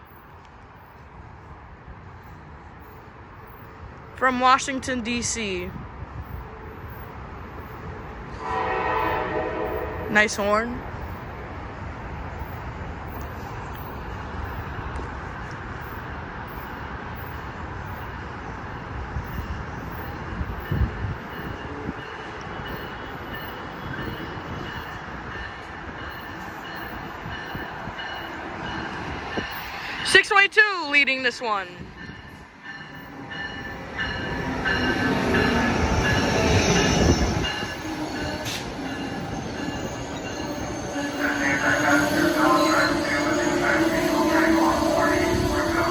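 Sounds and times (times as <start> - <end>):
train rumbling through station: 0.0 - 45.9.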